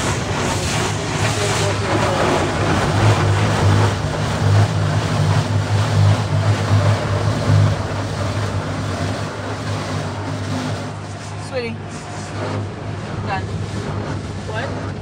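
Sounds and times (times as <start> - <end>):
car wash machinery drone: 0.0 - 15.0
water spraying against windows: 0.0 - 15.0.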